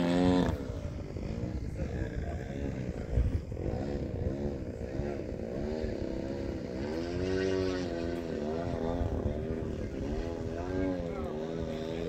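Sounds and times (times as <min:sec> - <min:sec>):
model plane motor and propeller: 0:00.0 - 0:12.0.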